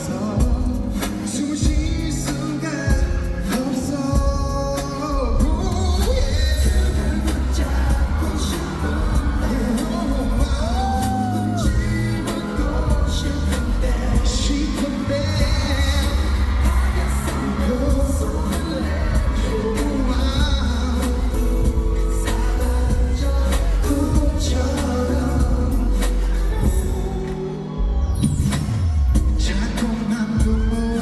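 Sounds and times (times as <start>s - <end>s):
band with heavy bass: 0.0s - 31.0s
man singing pop ballad: 0.0s - 31.0s.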